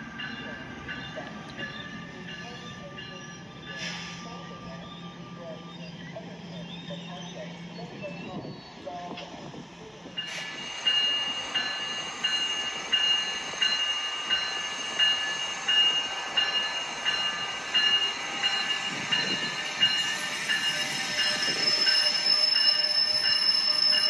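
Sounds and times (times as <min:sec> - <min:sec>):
railroad bell ringing: 0:00.0 - 0:24.0.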